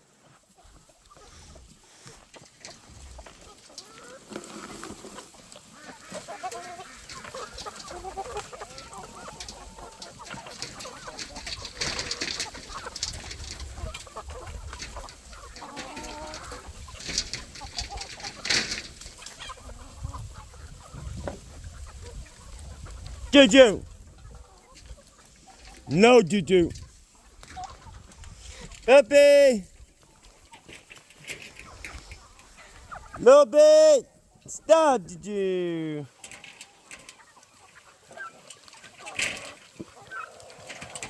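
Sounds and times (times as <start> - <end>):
chickens clucking: 0.0 - 33.4, 34.1 - 41.0.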